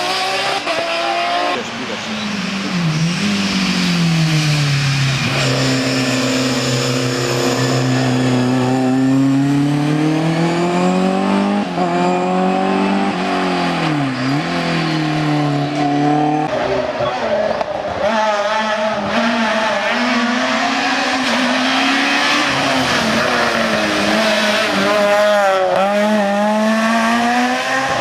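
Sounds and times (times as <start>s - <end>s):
race car engine at high revs: 0.0s - 28.0s.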